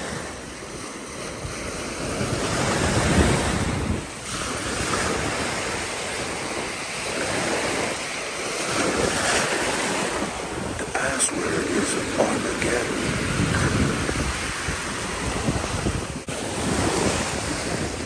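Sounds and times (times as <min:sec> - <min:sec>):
small waves washing: 0:00.0 - 0:18.0
wind buffeting microphone: 0:00.0 - 0:18.0.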